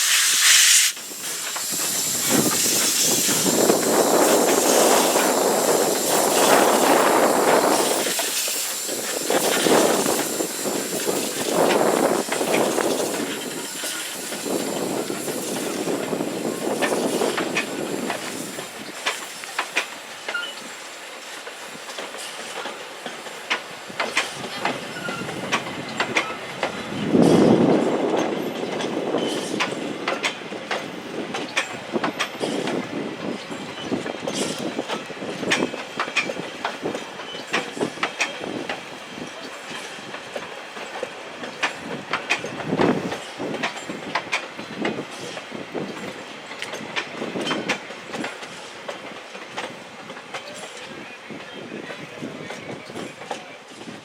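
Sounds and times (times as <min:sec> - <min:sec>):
train wheels rattling on rails: 0:00.0 - 0:54.0.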